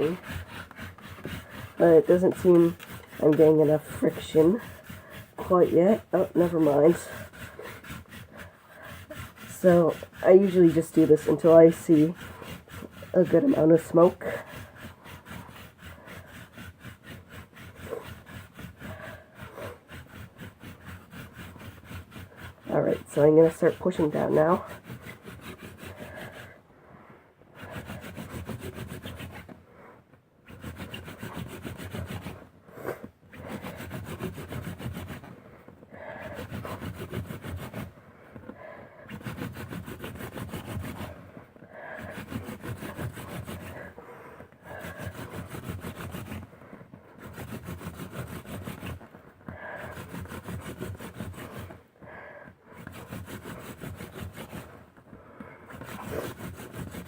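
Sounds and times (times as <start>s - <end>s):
wooden spindle grinding on board: 0.0s - 26.7s, 27.4s - 29.7s, 30.4s - 57.0s.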